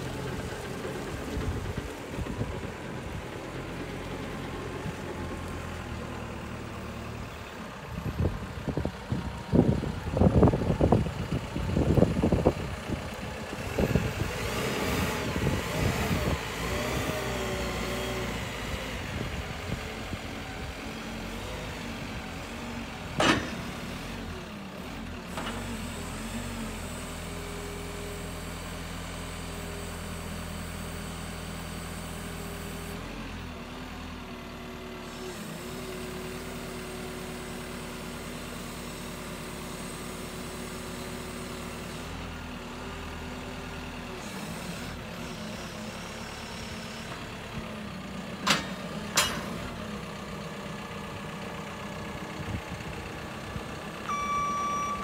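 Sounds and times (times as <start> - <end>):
diesel engine revving and idling: 0.0 - 55.0.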